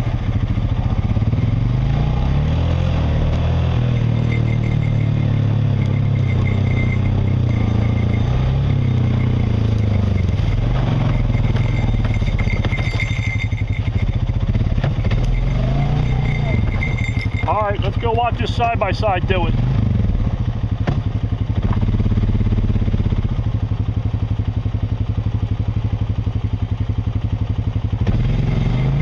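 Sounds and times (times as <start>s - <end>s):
vehicle engine at low revs: 0.0s - 29.0s.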